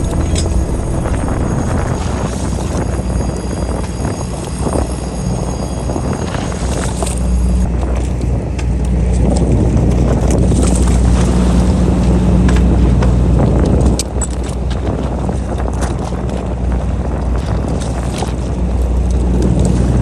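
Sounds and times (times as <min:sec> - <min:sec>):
boat engine droning: 0:00.0 - 0:20.0
water noise: 0:00.0 - 0:20.0
wind: 0:00.0 - 0:20.0.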